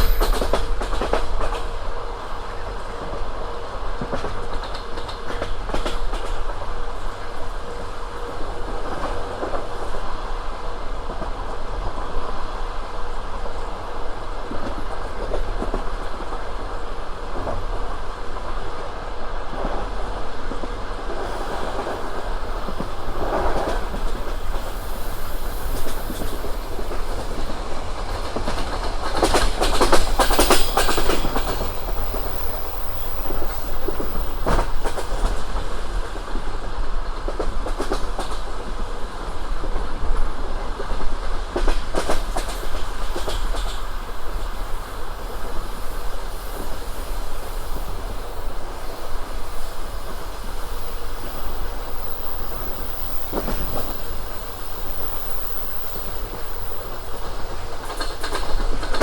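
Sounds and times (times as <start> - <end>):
train wheels clattering on rails: 0.0 - 10.4, 13.0 - 59.0.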